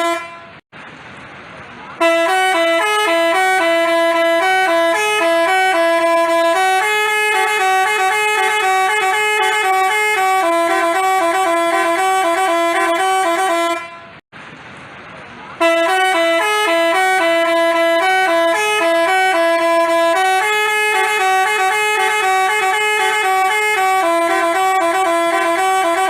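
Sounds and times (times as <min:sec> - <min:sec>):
bus multi-tone horn melody: 0:00.0 - 0:00.6, 0:01.9 - 0:14.2, 0:15.6 - 0:26.0.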